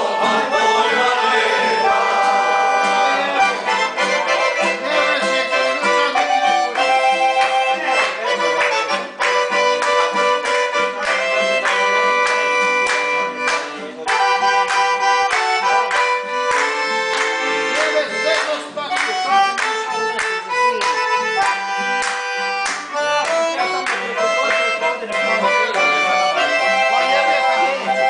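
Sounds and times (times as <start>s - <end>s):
strummed guitar: 0.0s - 28.0s
people clapping in time: 3.5s - 28.0s.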